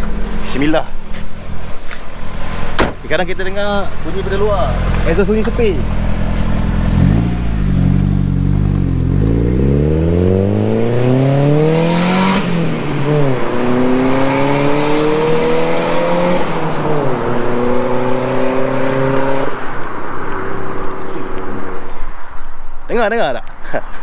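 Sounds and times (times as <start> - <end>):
car engine accelerating: 0.0 - 21.9.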